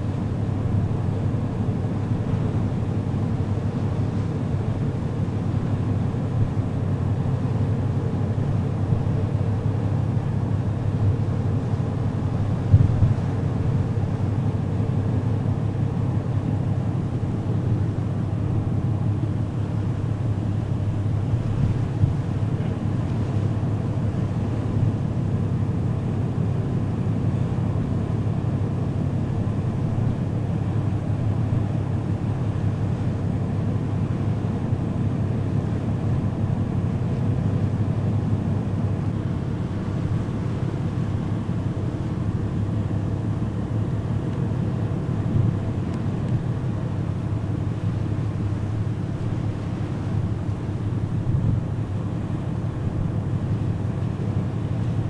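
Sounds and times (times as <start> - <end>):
ship engines droning: 0.0 - 55.0
wind and sea rushing: 0.0 - 55.0.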